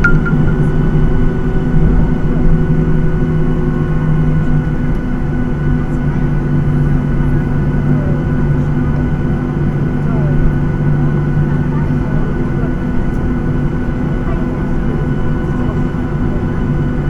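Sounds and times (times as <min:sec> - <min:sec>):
airplane cabin jet engine rumble: 0:00.0 - 0:17.0.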